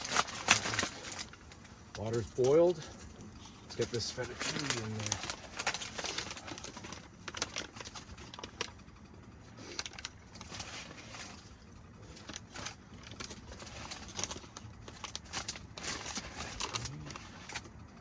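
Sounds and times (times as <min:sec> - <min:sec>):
dry pasta rustling: 0:00.0 - 0:18.0.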